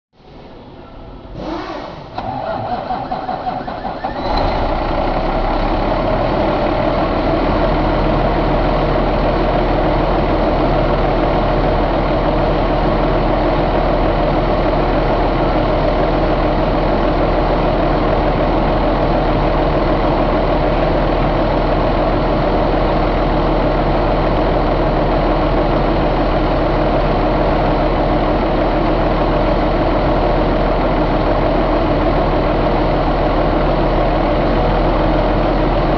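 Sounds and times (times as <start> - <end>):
diesel engine starting and idling: 0.2 - 35.9.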